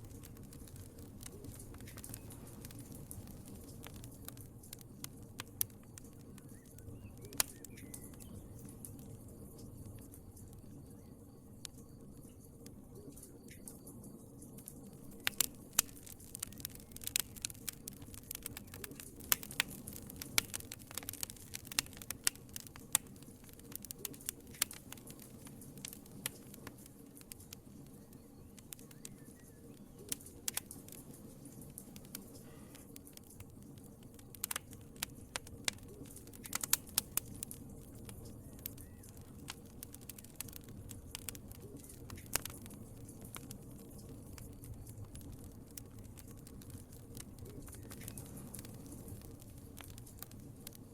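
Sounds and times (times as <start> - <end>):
low rush of flame: 0.0 - 10.8, 14.6 - 50.9
wood fire crackling: 0.0 - 50.9.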